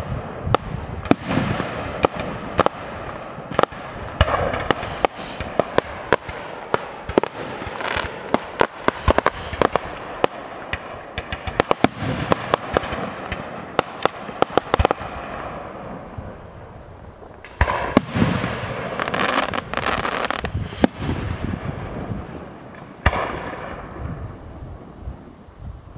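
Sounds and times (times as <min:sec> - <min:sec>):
fireworks bangs: 0:00.0 - 0:25.4
fireworks crackling and hissing: 0:00.0 - 0:25.9.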